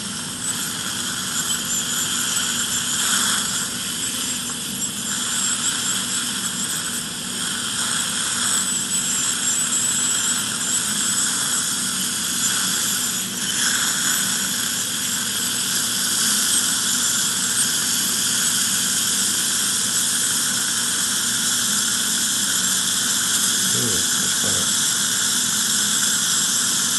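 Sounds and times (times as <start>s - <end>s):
dental scaler whine: 0.0s - 26.9s.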